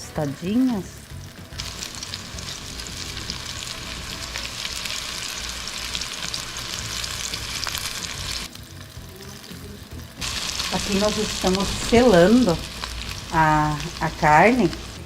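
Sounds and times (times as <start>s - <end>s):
meatballs sizzling in oil: 0.2s - 15.0s.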